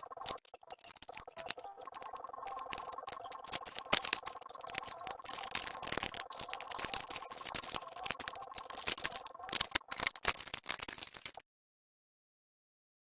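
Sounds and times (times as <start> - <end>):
mechanical clicking and rattling: 0.0 - 11.4.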